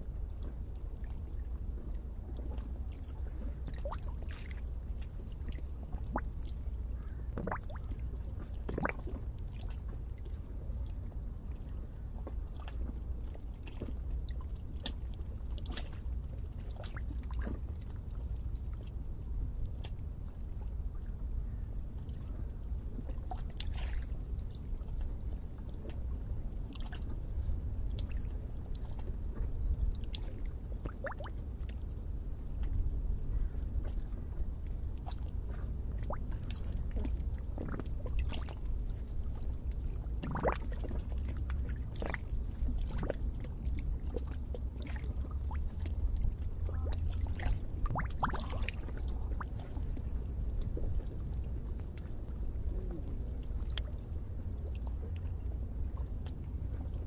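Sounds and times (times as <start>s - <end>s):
steady low rumble: 0.0s - 57.0s
water bubbling and gurgling: 0.0s - 57.0s.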